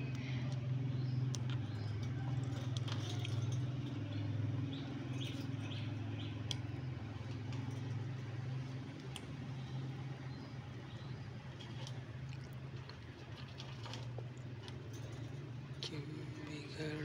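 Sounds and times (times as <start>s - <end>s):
parakeets clicking and rustling seed: 0.0s - 17.0s
steady low hum: 0.0s - 17.0s.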